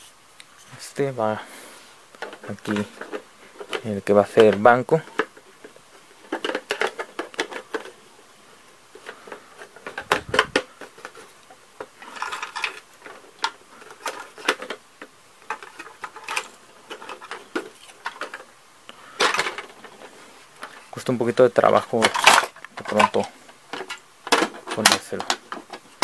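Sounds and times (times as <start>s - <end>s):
plastic parts clicking: 2.1s - 8.0s, 8.9s - 18.5s, 19.2s - 20.8s, 21.6s - 26.0s.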